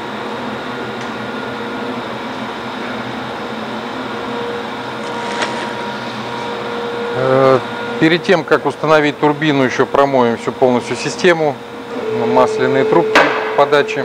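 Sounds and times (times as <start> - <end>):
workshop machinery hum: 0.0 - 14.0.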